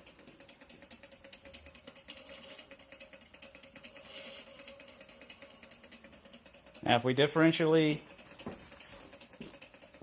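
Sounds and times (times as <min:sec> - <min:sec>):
stirling engine rapid ticking: 0:00.0 - 0:10.0.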